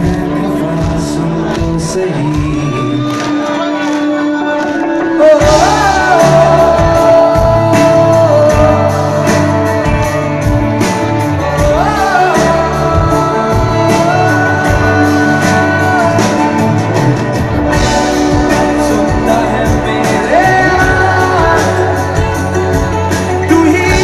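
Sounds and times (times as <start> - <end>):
steady drum beat: 0.0 - 3.5, 5.2 - 24.0
acoustic guitar: 0.0 - 24.0
bass guitar: 0.0 - 24.0
singer holding long notes: 0.0 - 24.0.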